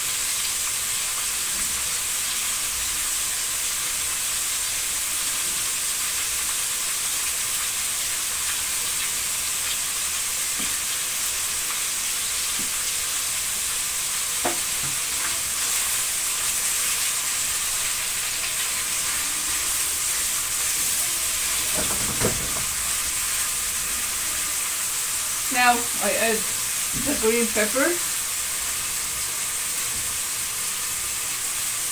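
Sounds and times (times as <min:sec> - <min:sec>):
meat sizzling in oil: 0:00.0 - 0:31.9.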